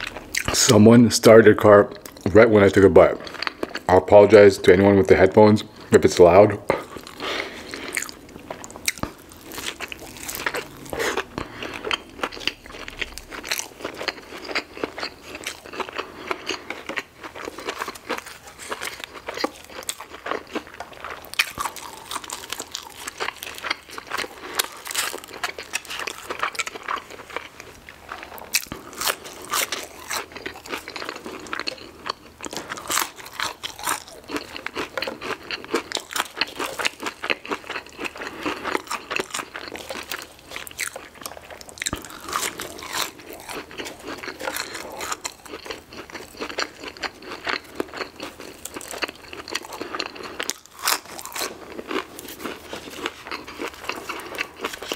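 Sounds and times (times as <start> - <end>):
chewing crispy food: 0.0 - 1.3, 1.9 - 4.2, 6.7 - 54.9.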